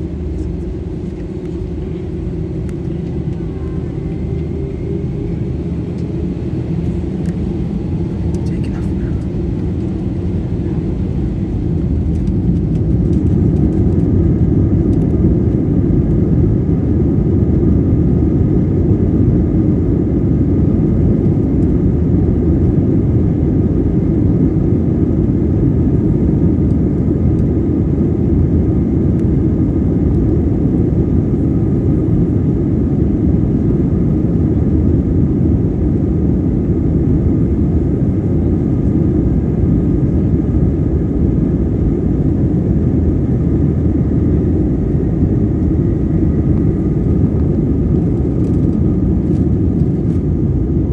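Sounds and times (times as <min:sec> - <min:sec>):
faint engine whine: 0:00.0 - 0:50.9
jet engines rumbling: 0:00.0 - 0:50.9.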